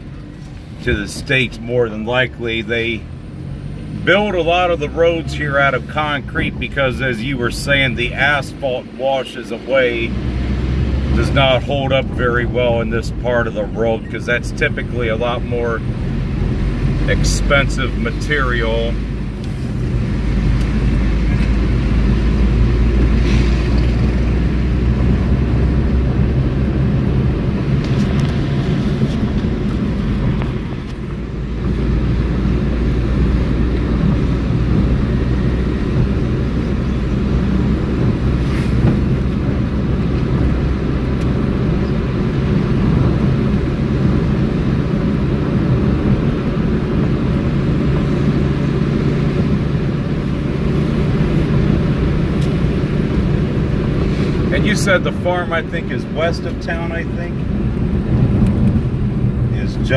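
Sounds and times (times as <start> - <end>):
engine and tyre rumble in car: 0.0 - 59.9.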